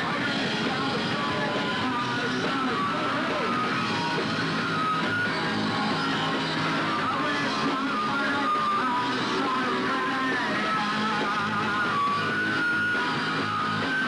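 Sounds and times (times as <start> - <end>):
electric guitar: 0.0 - 14.0
punk rock band playing: 0.0 - 14.0.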